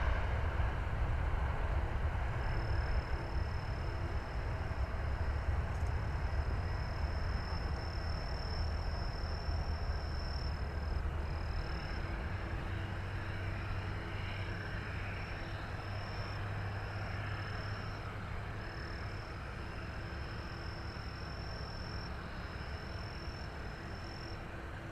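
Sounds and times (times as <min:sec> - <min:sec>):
jet engines rumbling: 0:00.0 - 0:24.9.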